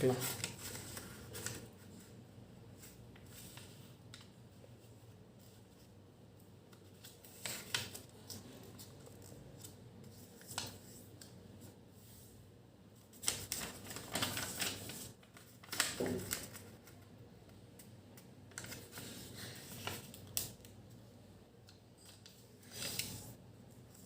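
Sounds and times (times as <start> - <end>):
paper rustling and crackling: 0.0 - 5.9, 6.7 - 11.7, 13.0 - 17.2, 17.8 - 20.8, 22.0 - 24.0.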